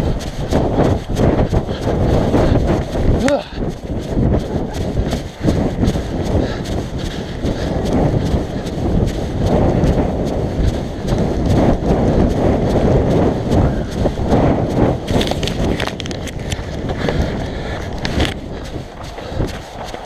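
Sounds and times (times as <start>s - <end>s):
running footsteps on grass: 0.0s - 20.0s
wind rumbling on microphone: 0.0s - 20.0s.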